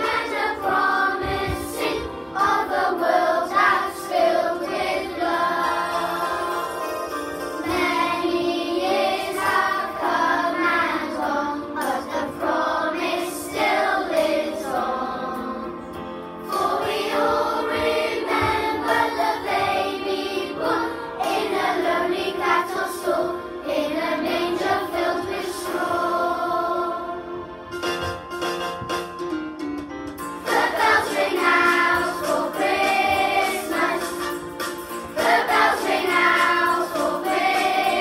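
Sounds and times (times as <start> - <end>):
children's choir singing: 0.0 - 27.7, 30.4 - 38.0.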